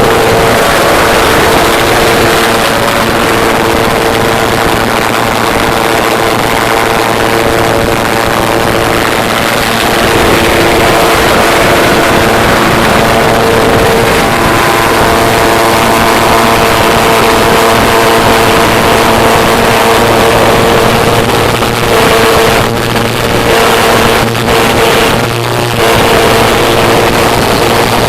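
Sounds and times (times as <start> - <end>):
jetbike engine rushing noise: 0.0 - 28.0.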